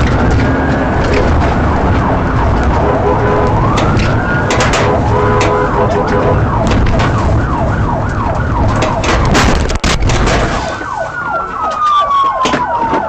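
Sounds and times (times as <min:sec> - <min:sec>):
car engine and road noise: 0:00.0 - 0:13.0
siren long falling wail: 0:00.1 - 0:09.7, 0:10.3 - 0:13.0
police siren yelp: 0:00.4 - 0:09.6, 0:10.3 - 0:13.0.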